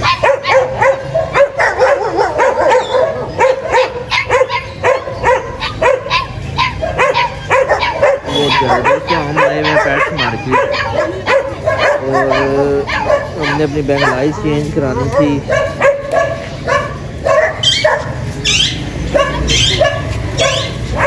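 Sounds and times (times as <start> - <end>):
dogs barking: 0.0 - 21.0.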